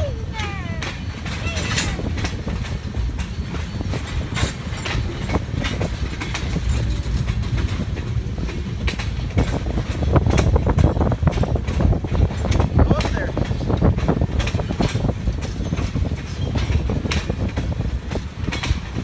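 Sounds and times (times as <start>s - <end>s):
train wheels rumbling on rail: 0.0s - 19.0s
wheels clacking over track joints: 0.0s - 19.0s.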